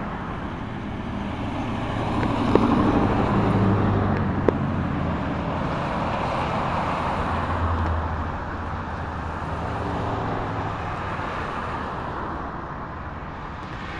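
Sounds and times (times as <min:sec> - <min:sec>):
road traffic rushing: 0:00.0 - 0:13.9.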